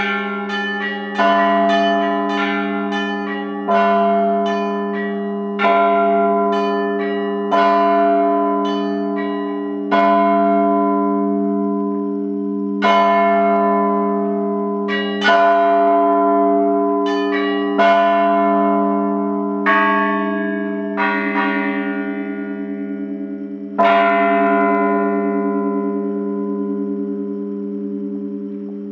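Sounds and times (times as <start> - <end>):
church bells ringing: 0.0 - 28.9.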